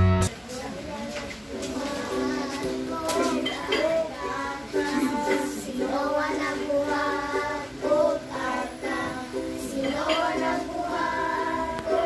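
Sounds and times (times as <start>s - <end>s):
strummed ukulele: 0.0s - 0.3s, 1.5s - 12.0s
children singing in unison: 0.7s - 12.0s.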